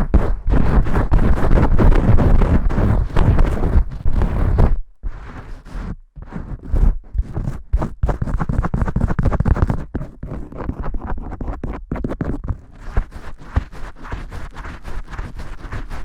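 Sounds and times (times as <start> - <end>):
fingers scratching through lather: 0.5 - 16.0.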